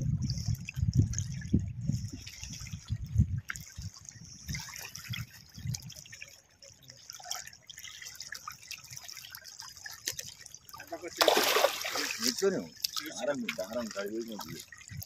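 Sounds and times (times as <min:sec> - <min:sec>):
water splashing and lapping: 0:00.0 - 0:15.0.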